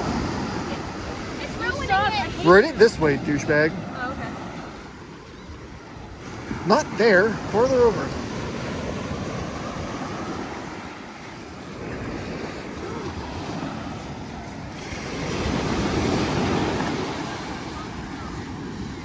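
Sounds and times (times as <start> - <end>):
ocean surf washing on beach: 0.0 - 19.0
wind on microphone: 0.0 - 19.0.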